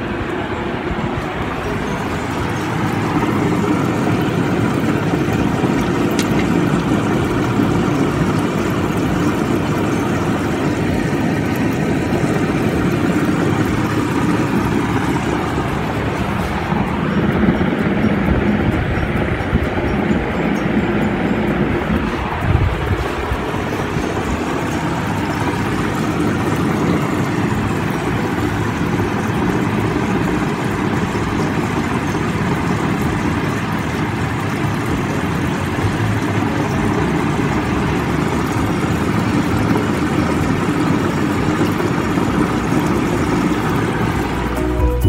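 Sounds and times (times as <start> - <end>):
bubbling of air stones: 0.0 - 20.1, 21.8 - 44.6
air pump hum: 0.0 - 45.0.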